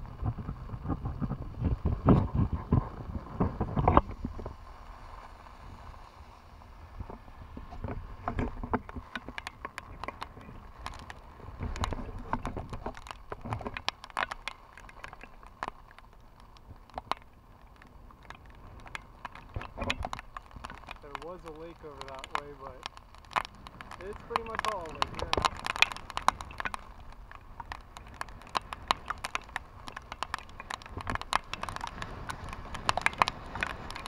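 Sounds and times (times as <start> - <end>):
wind buffeting microphone: 0.0 - 13.6, 18.4 - 34.0
raindrops tapping on camera: 0.0 - 34.0.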